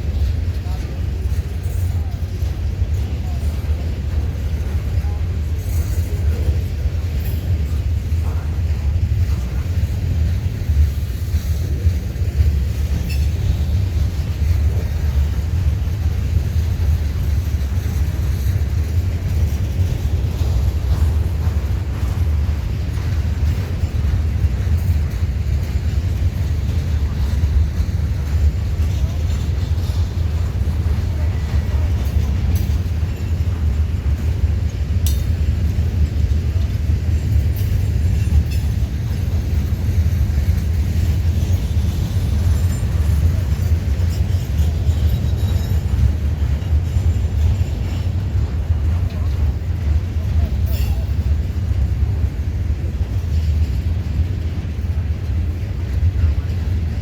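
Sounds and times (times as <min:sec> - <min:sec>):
freight train wheels rumbling on rail: 0:00.0 - 0:57.0
train clanks: 0:00.0 - 0:57.0.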